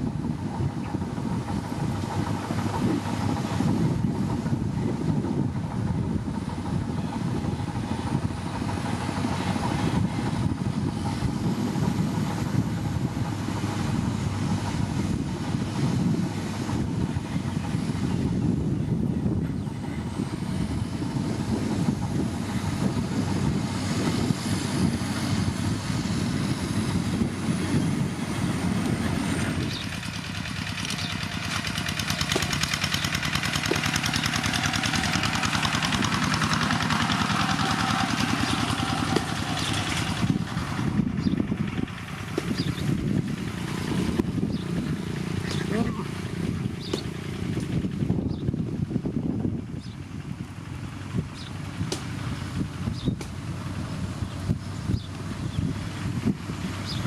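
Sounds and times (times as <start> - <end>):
heavy machinery engine rumble: 0.0 - 57.0.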